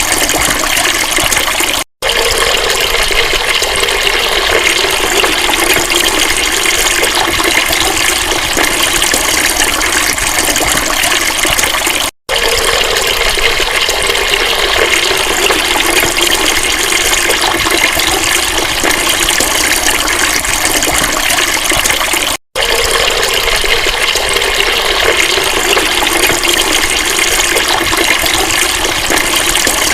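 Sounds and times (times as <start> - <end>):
water rushing: 0.0 - 29.9.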